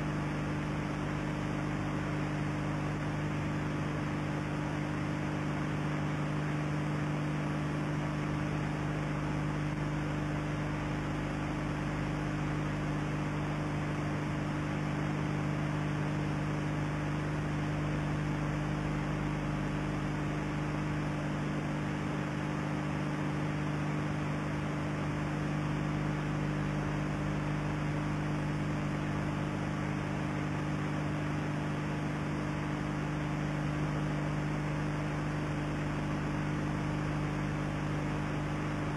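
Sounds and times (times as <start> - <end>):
low electrical hum: 0.0 - 38.9.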